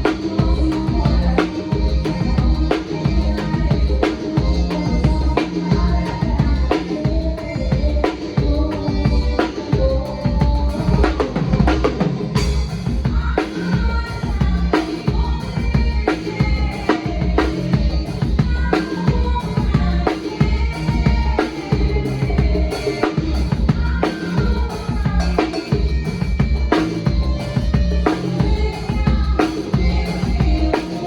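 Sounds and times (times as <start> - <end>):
drum kit playing a groove: 0.0 - 31.0.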